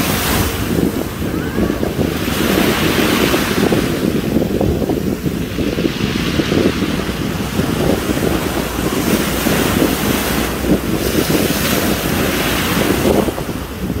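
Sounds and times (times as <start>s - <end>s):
choppy sea waves: 0.0s - 14.0s
wind buffeting microphone: 0.0s - 14.0s.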